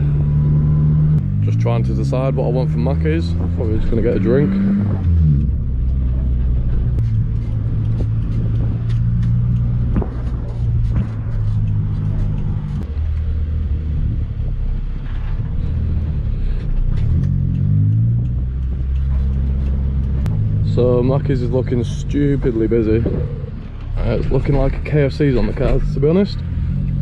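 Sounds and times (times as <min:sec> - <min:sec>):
car engine at low revs: 0:00.0 - 0:27.0.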